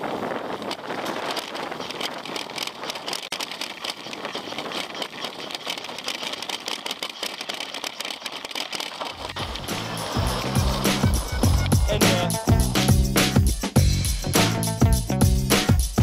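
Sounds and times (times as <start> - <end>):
tyres on gravel: 0.0 - 13.4
bike rattling and clicking: 0.0 - 14.0.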